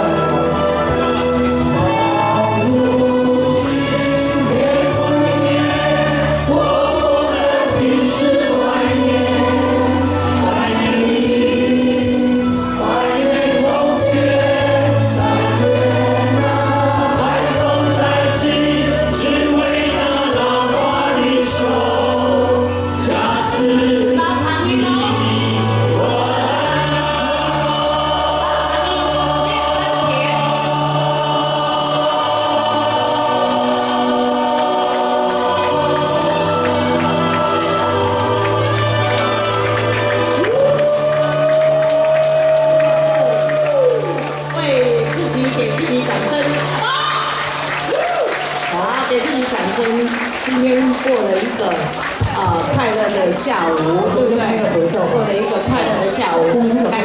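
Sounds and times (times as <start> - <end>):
crowd singing in chorus: 0.0 - 57.0.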